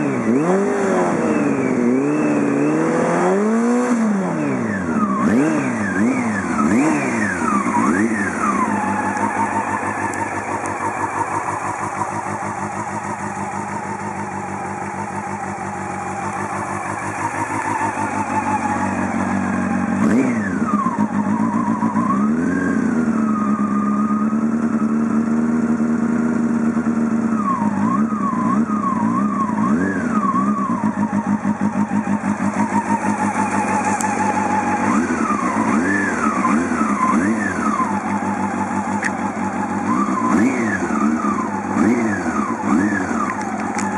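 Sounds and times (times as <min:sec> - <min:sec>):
motorcycle engine idling: 0:00.0 - 0:43.9
motorcycle engine revving: 0:00.0 - 0:43.9.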